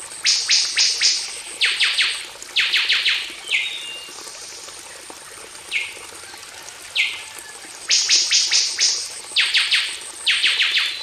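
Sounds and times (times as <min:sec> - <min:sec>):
faint running water: 0:00.0 - 0:11.0.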